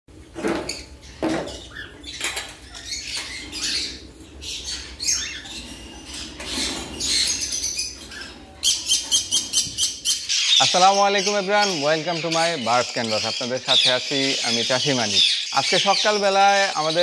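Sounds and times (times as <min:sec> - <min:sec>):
parrots chattering and squawking: 0:00.2 - 0:17.0.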